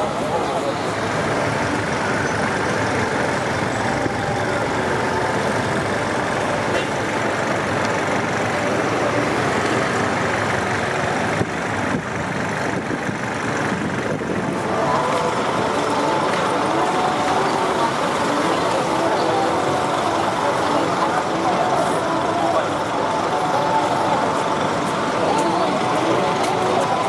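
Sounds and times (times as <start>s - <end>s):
motor traffic: 0.0s - 27.0s
people talking: 0.0s - 27.0s.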